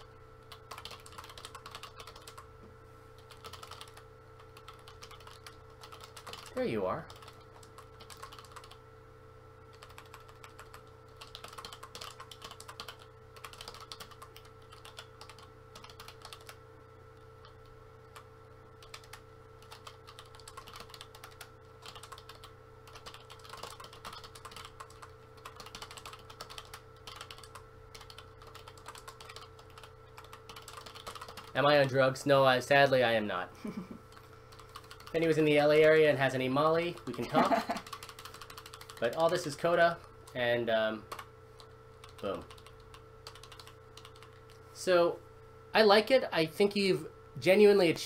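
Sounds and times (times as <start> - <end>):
computer keyboard typing: 0.0 - 2.5, 3.2 - 8.8, 9.7 - 16.6, 17.4 - 31.9, 34.1 - 36.1, 36.7 - 40.4, 41.1 - 44.6
faint steady hum: 0.0 - 48.0.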